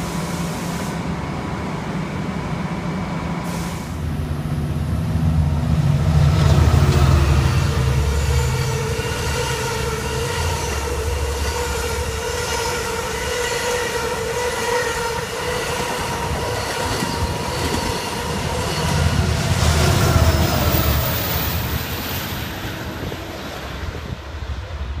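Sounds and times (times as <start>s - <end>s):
train rumbling by: 0.0s - 25.0s.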